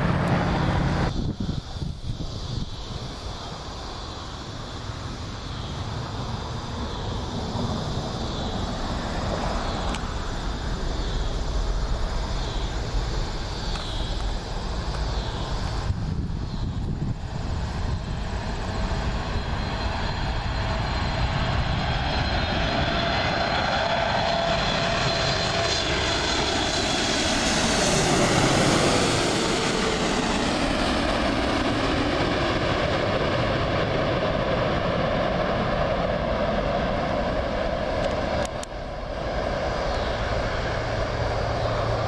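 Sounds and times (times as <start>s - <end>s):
jet airliner roaring overhead: 0.0s - 42.0s
jet engine whine: 0.0s - 42.0s.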